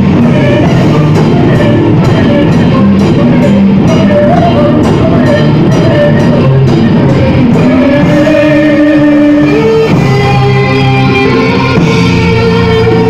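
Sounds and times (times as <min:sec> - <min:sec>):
metal band playing live: 0:00.0 - 0:13.0.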